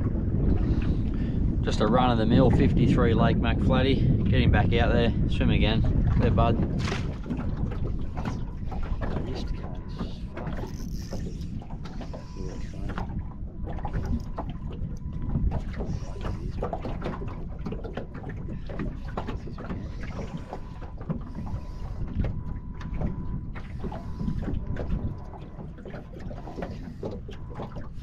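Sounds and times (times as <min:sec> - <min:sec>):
low rumble of wind and water: 0:00.0 - 0:28.0
waves slapping against boat hull: 0:00.0 - 0:28.0.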